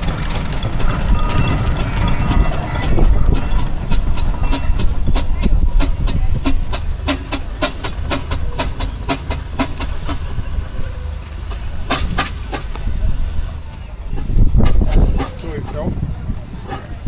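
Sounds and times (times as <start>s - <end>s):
low rumble: 0.0s - 17.0s
steam engine exhaust beats: 0.0s - 17.0s.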